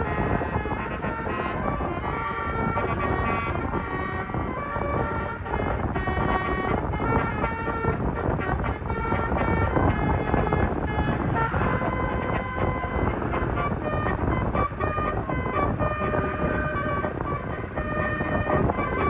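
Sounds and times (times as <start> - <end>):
multi-tone musical bus horn: 0.0 - 19.0.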